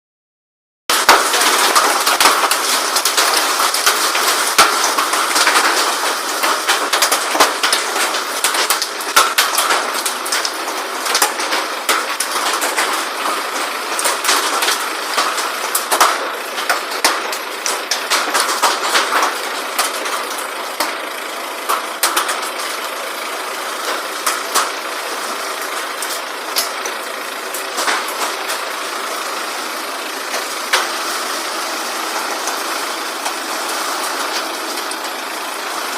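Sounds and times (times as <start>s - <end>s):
hail clattering: 0.9s - 35.9s.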